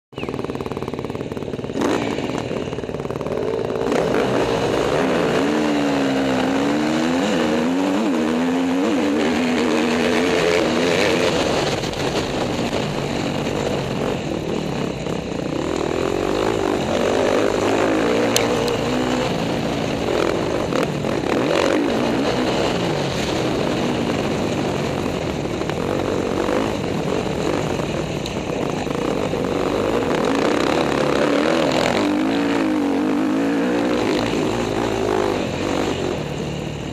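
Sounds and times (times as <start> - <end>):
motocross bike engine revving: 0.2 - 36.9.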